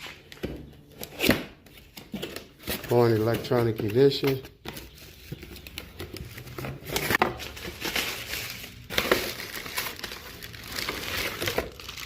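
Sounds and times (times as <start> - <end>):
packaging rustling and crinkling: 1.9 - 12.0.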